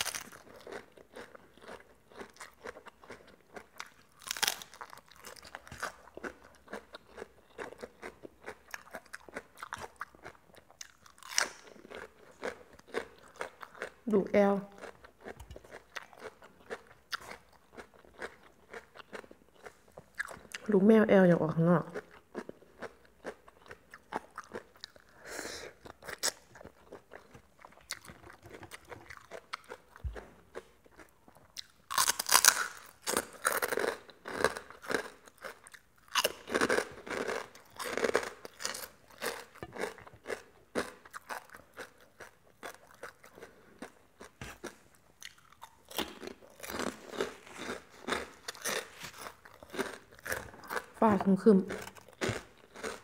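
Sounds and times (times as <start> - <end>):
person chewing crunchy food: 0.0 - 20.7, 21.9 - 53.0.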